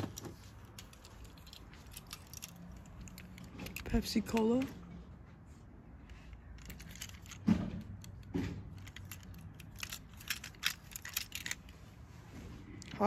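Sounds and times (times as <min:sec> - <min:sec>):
toy cars clinking and rattling: 0:00.0 - 0:05.0, 0:06.0 - 0:12.0.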